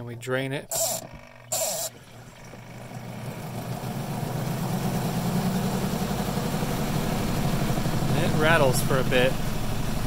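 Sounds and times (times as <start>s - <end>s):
spin dryer motor hum: 0.0s - 10.0s.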